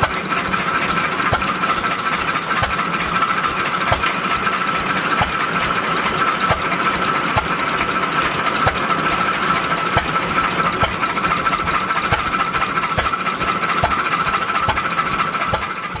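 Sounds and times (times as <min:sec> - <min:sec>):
stationary engine firing knock: 0:00.0 - 0:16.0.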